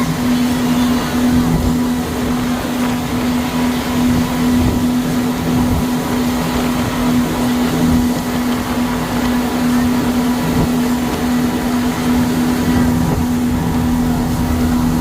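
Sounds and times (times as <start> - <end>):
boat engines humming: 0.0 - 15.0
water rushing: 0.0 - 15.0
wind: 0.0 - 15.0.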